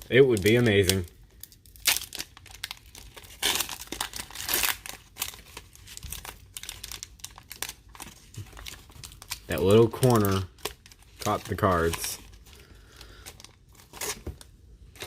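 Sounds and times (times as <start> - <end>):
foil wrapper crinkling and tearing: 0.0 - 15.0
cards rustling: 0.1 - 15.0.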